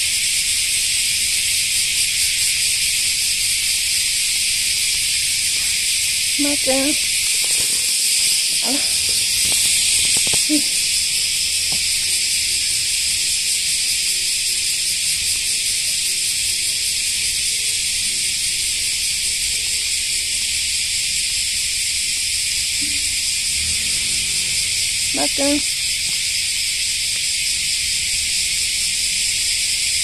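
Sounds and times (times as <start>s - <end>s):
cicadas buzzing: 0.0s - 30.0s.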